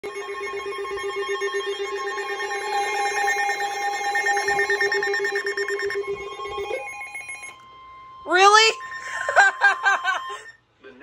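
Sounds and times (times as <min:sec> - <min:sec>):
pulsing electronic alarm tones: 0:00.0 - 0:10.6
steady electronic tone: 0:00.0 - 0:10.6.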